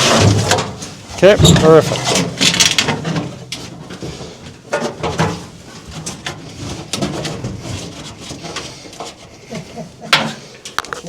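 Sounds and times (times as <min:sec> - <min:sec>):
wiring harness knocking and rustling: 0:00.0 - 0:09.3.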